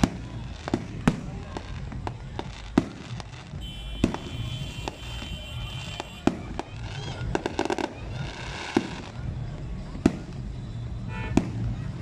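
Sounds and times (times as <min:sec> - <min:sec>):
crackling fireworks pops: 0:00.0 - 0:12.0
fireworks bangs: 0:00.0 - 0:12.0.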